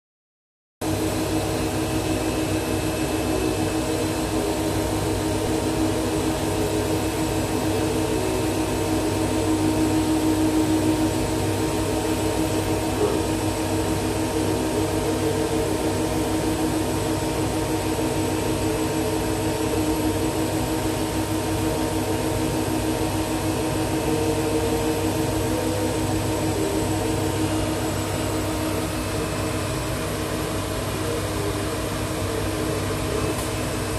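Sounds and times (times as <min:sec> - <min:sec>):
laser cutter humming: 0:00.8 - 0:33.9.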